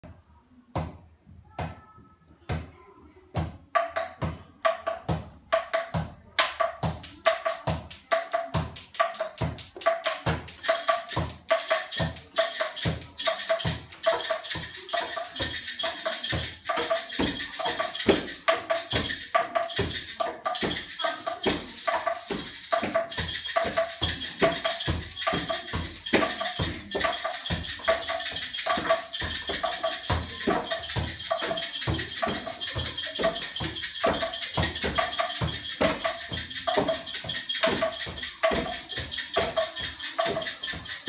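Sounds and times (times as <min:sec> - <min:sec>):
rattling shaker: 0:06.8 - 0:41.0.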